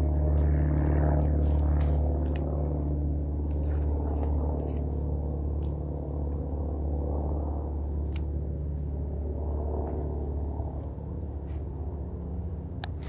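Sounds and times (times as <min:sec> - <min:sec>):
airplane droning overhead: 0:00.0 - 0:13.0.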